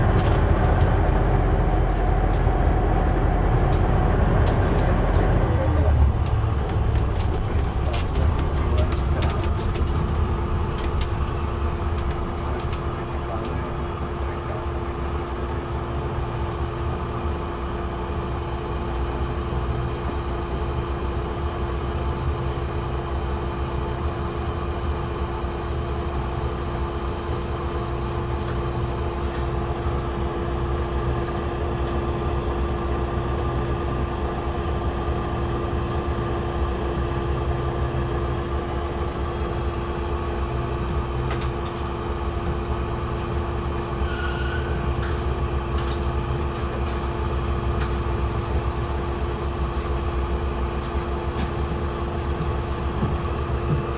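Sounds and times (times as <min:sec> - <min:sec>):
bus diesel engine idling: 0:00.0 - 0:53.9.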